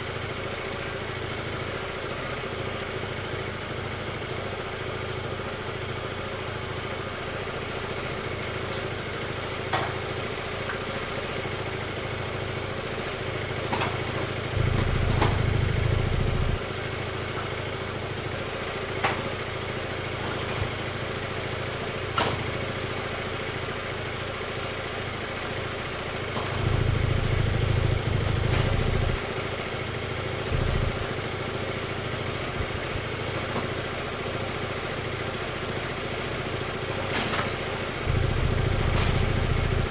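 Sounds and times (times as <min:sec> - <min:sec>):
scooter engine idling: 0:00.0 - 0:39.9.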